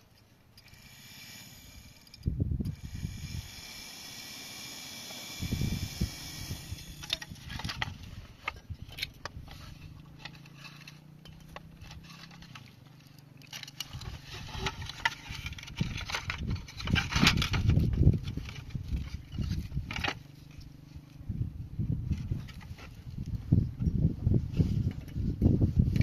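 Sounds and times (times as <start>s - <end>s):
hard parts clicking and rattling: 0.0s - 21.2s
low steady hum: 0.0s - 26.0s.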